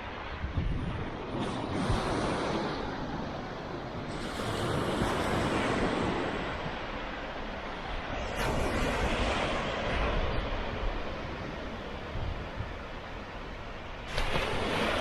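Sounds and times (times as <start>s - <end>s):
wind buffeting microphone: 0.0s - 15.0s
ocean surf breaking: 1.1s - 15.0s.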